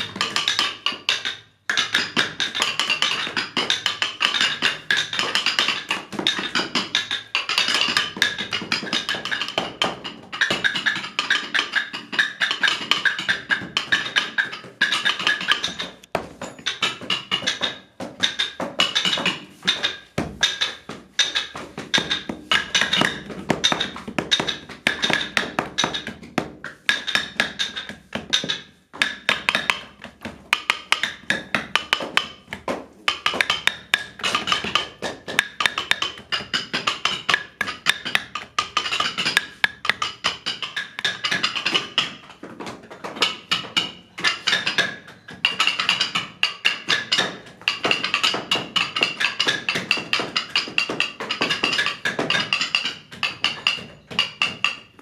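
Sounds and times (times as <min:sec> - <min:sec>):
wood-block-like percussion strokes: 0:00.0 - 0:55.0.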